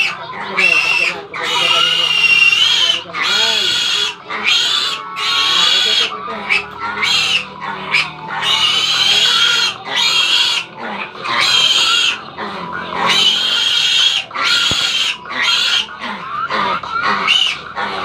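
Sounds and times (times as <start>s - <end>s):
piglet squealing: 0.0s - 18.0s.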